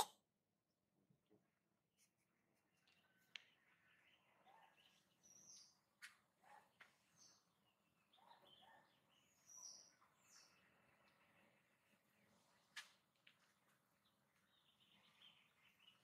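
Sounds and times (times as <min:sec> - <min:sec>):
faint bird chirps: 0:02.6 - 0:13.1, 0:13.7 - 0:16.0.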